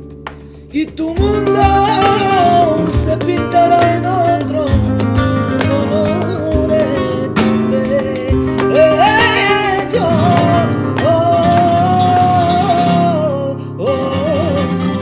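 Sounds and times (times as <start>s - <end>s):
flamenco guitar music: 0.0s - 15.0s.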